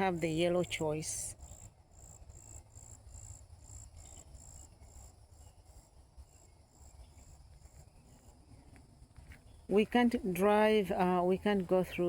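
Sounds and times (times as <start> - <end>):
faint insect chirping: 0.1 - 12.0.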